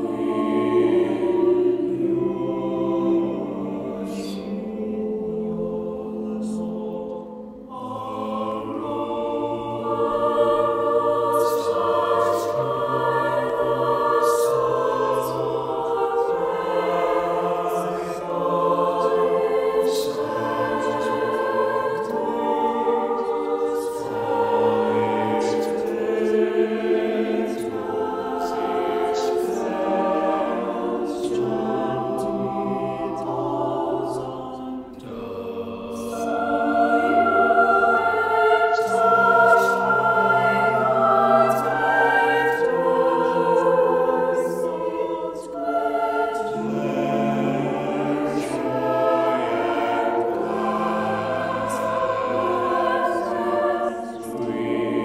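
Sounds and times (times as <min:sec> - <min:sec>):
choir singing held chords: 0:00.0 - 0:55.0.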